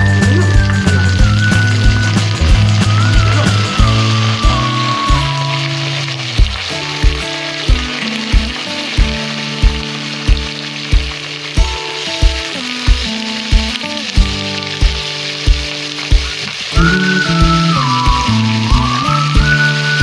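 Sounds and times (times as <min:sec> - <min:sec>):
background music with steady beat: 0:00.0 - 0:20.0
chicken sizzling in hot oil: 0:00.0 - 0:20.0.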